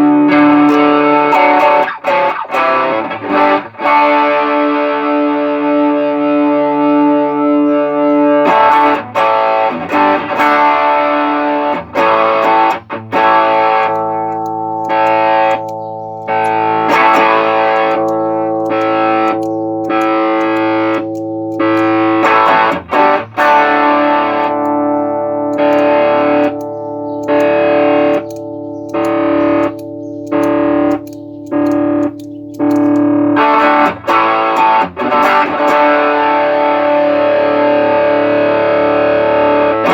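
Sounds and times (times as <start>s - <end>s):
overdriven electric guitar chords: 0.0s - 39.9s.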